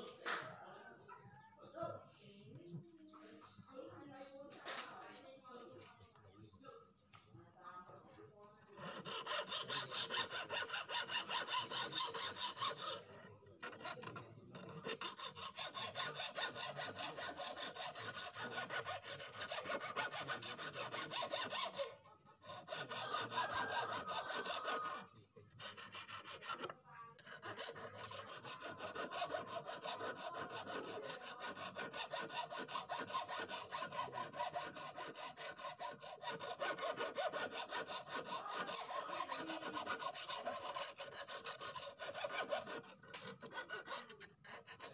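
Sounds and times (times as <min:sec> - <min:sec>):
hand file rasping on steel blade: 0:08.6 - 0:44.9.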